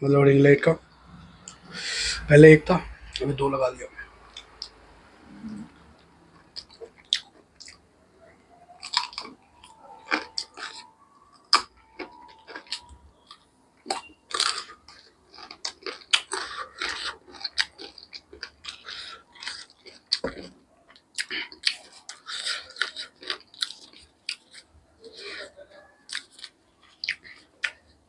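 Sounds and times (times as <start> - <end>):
man chewing chicken: 4.3 - 7.8, 8.7 - 28.0.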